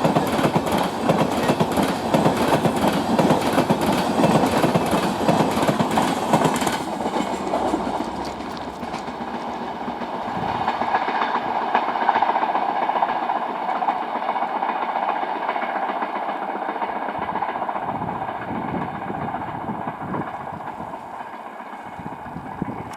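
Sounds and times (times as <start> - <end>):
train wheels clattering on rails: 0.0 - 22.9.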